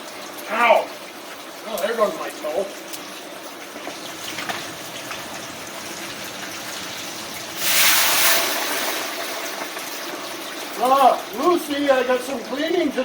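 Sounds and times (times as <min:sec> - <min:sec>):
wings sizzling in hot oil: 0:00.0 - 0:13.0.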